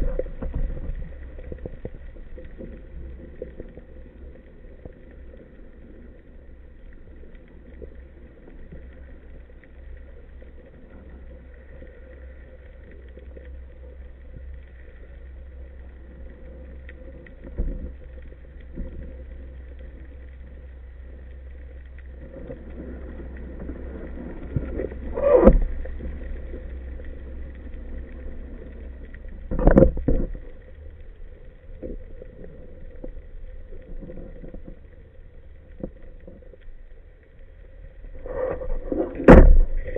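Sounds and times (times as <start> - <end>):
underwater low rumble: 0.0 - 39.9.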